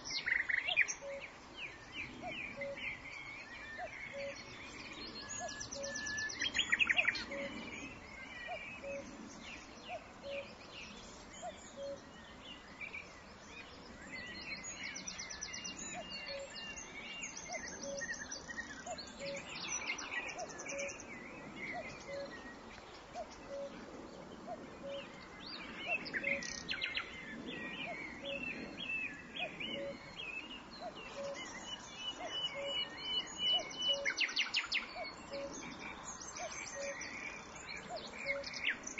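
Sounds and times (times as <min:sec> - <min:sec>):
nightingale singing: 0:00.0 - 0:13.1, 0:13.8 - 0:22.6, 0:23.2 - 0:23.8, 0:24.5 - 0:38.9.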